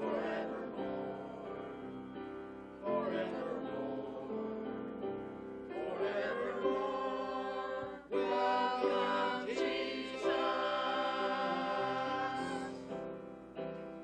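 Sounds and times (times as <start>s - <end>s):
mixed choir singing: 0.0s - 13.2s.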